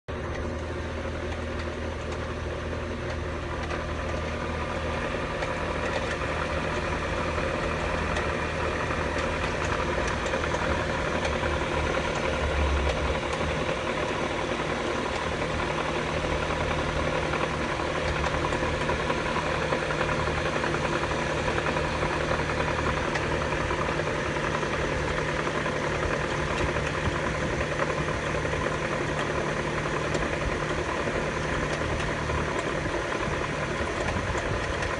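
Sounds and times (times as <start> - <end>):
car engine idling: 0.1 - 34.9
engine extraneous noise: 3.1 - 34.9.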